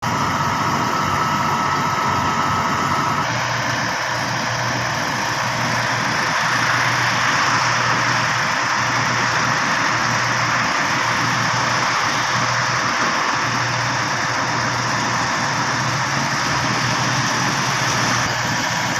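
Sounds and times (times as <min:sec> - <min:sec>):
engine drone: 0:00.0 - 0:18.9.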